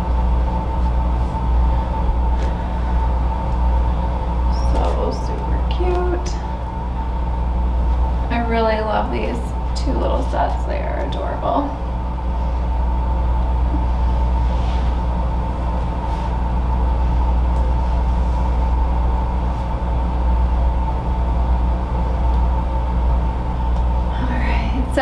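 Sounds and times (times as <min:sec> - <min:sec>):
low rumbling hum: 0:00.0 - 0:25.0.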